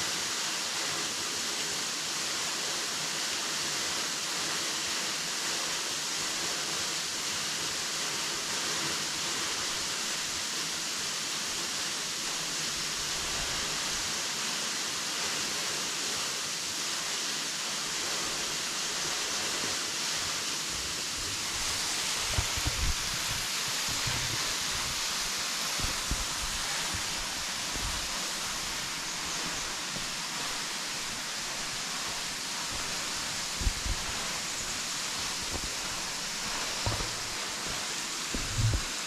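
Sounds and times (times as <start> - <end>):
waterfall rushing: 0.2 - 39.0.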